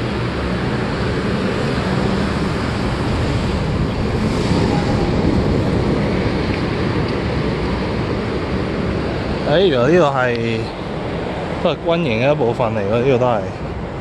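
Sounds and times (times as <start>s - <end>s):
wind on microphone: 0.0s - 11.6s
traffic rushing overhead: 0.0s - 14.0s.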